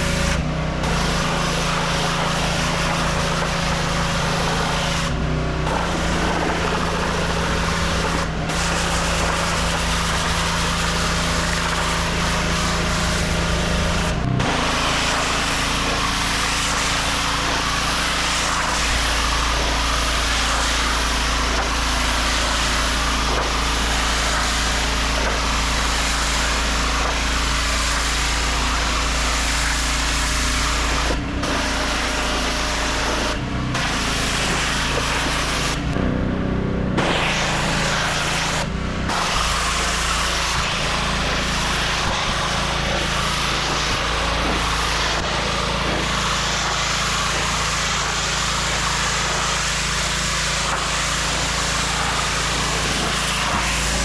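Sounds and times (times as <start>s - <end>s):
pressure washer spray hissing: 0.0s - 36.0s, 36.9s - 54.0s.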